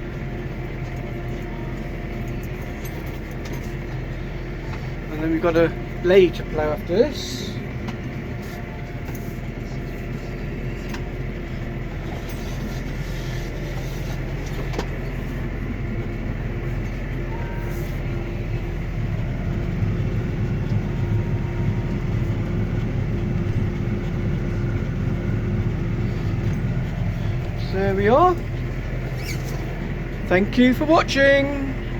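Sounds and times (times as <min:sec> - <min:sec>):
tractor engine under load: 0:00.0 - 0:31.9.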